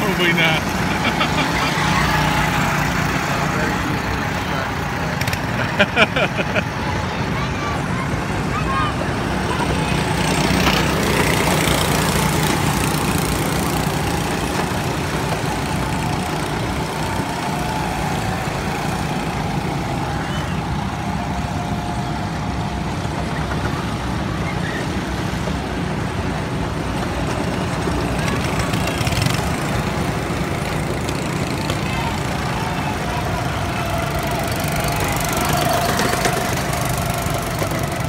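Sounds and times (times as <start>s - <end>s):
go-kart engines droning: 0.0s - 38.0s
passing kart engines: 0.0s - 38.0s.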